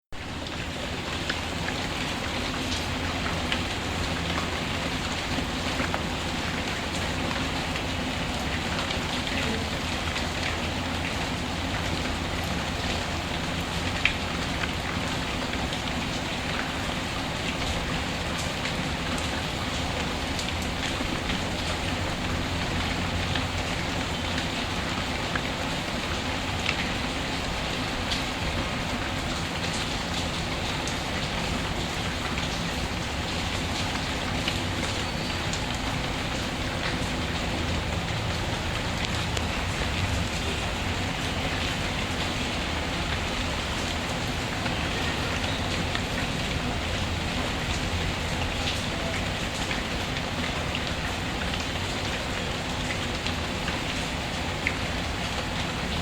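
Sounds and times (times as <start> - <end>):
steady rain hiss: 0.2 - 56.0.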